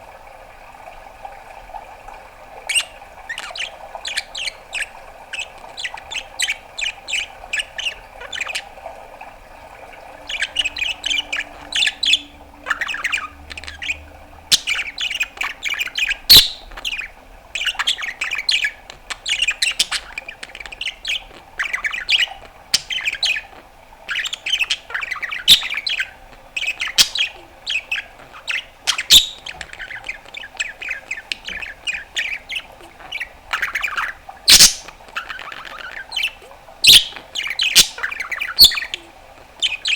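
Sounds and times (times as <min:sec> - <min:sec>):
faint steady hum: 0:00.0 - 0:39.9
budgerigar warbling and chirping: 0:02.6 - 0:08.8, 0:09.8 - 0:39.9.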